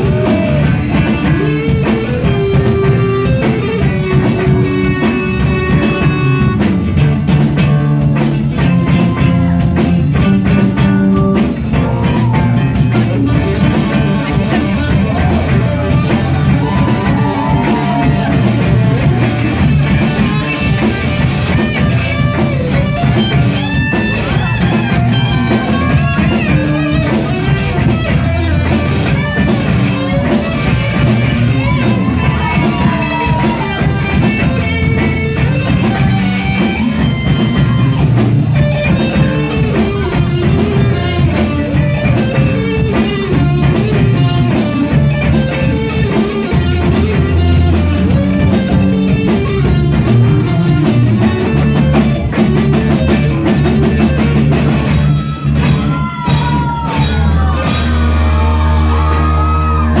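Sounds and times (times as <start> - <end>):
bass guitar: 0.0 - 60.0
drum kit: 0.0 - 60.0
electric guitars: 0.0 - 60.0.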